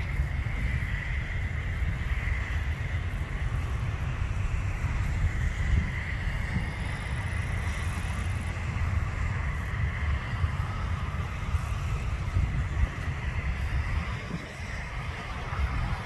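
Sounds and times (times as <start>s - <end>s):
distant jet engines whining: 0.0s - 16.0s
wind buffeting microphone: 0.0s - 16.0s.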